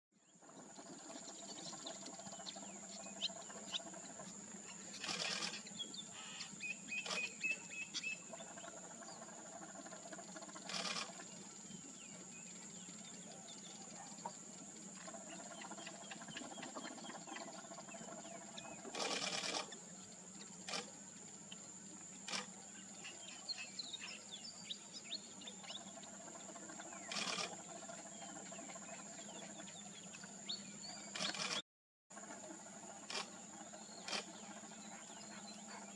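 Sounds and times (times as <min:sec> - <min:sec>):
faint bird chirps: 0:00.2 - 0:31.6.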